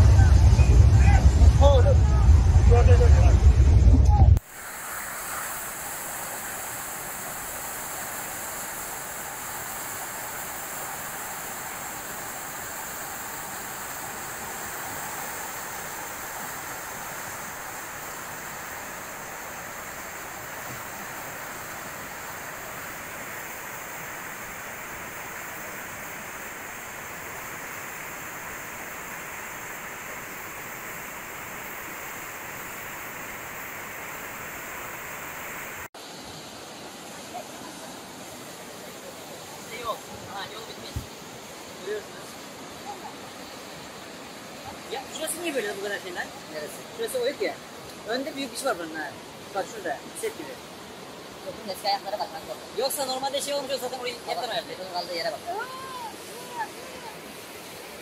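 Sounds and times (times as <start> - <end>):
floodwater rushing down river: 4.4 - 58.0.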